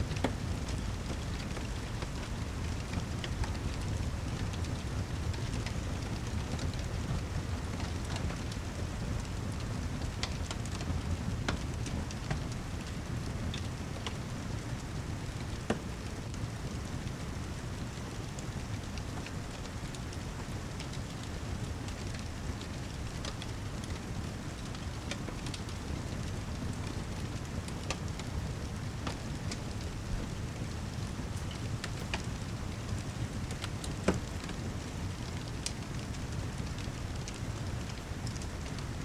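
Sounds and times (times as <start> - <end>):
steady rain: 0.0 - 39.0
wood fire crackling and popping: 0.0 - 39.0.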